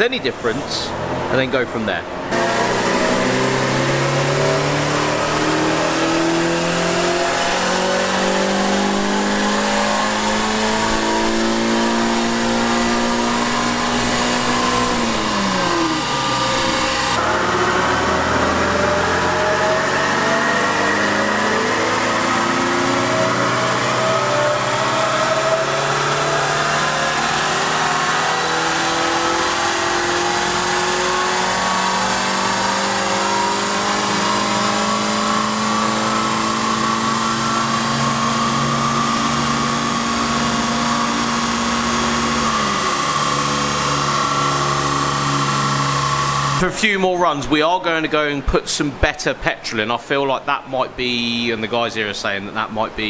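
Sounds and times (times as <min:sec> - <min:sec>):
car engine revving on dyno: 0:00.0 - 0:47.0.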